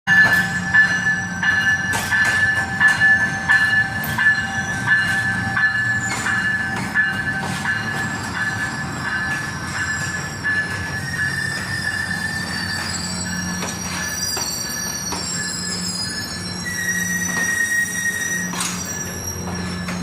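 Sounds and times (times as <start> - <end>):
rail joint clicks: 0.1 - 20.0
train wheels squealing: 0.1 - 20.0.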